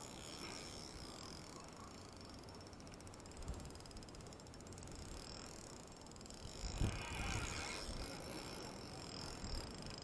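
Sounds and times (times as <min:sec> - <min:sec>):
fishing reel gears whirring and clicking: 0:00.0 - 0:10.0.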